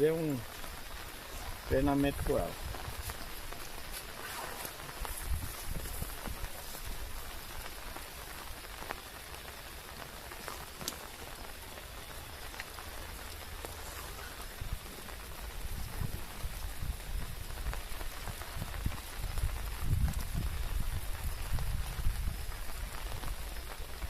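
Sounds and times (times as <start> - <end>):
raindrops ticking: 0.0 - 24.0
steady rain falling: 0.0 - 24.0.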